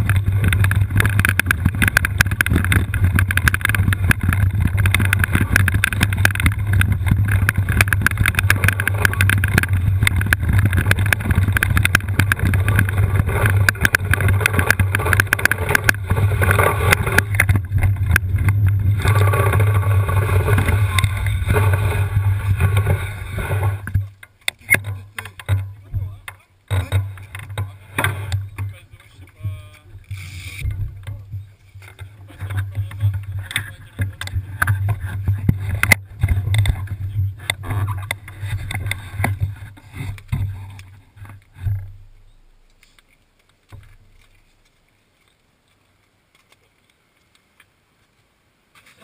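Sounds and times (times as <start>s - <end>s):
rattling: 0.0s - 42.3s
wind noise on microphone: 0.0s - 42.7s
wheelchair rolling on rough trail: 0.0s - 45.8s.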